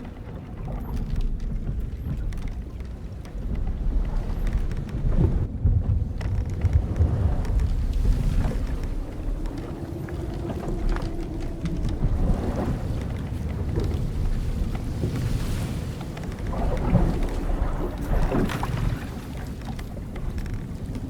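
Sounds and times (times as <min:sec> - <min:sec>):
long timber creak: 0:00.0 - 0:05.4, 0:06.0 - 0:21.0
low rumble of wind and waves: 0:00.0 - 0:21.0
small creaks and knocks: 0:00.0 - 0:21.0.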